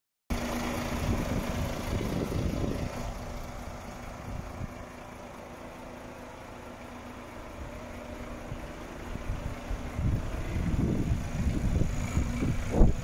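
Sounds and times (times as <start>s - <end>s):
truck diesel engine idling: 0.3s - 13.0s.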